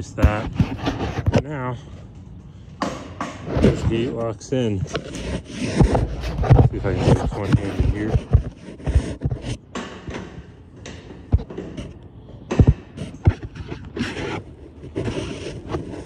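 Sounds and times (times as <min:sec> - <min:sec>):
scraping and handling noise: 0:00.0 - 0:16.0.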